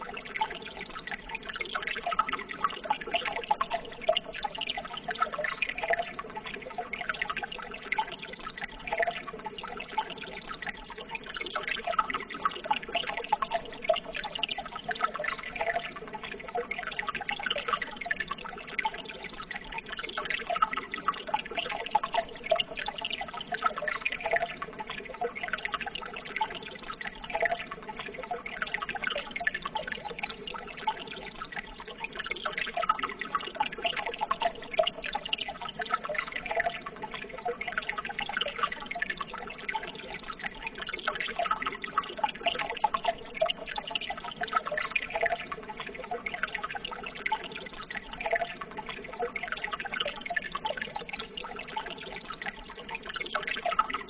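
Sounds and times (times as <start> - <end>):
small water drips: 0.0 - 54.0
water trickling and splashing: 0.0 - 54.0.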